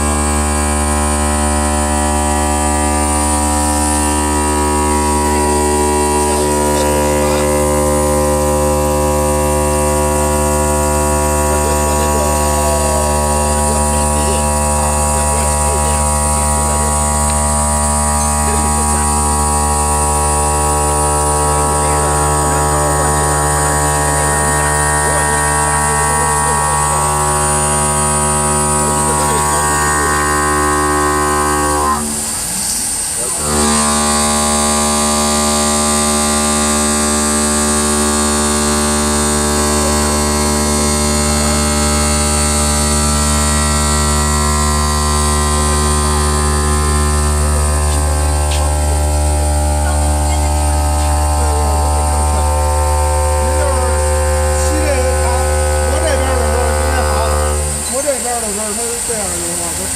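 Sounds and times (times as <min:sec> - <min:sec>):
machine motor humming: 0:00.0 - 0:59.9.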